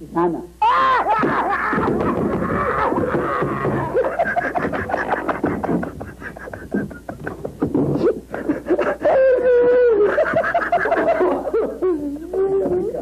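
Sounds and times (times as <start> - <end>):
people cackling with laughter: 0.7 - 13.0.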